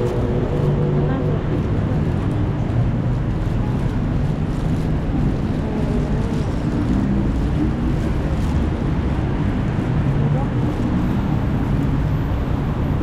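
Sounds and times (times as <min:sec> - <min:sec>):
city traffic rumble: 0:00.0 - 0:13.0
wind buffeting microphone: 0:00.0 - 0:13.0.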